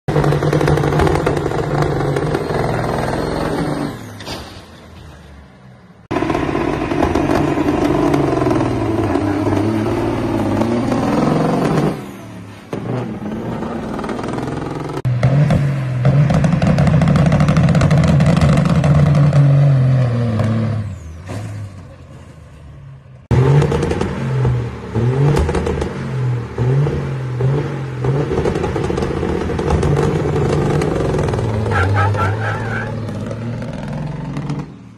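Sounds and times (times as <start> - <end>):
diesel truck engine accelerating: 0.1 - 34.9.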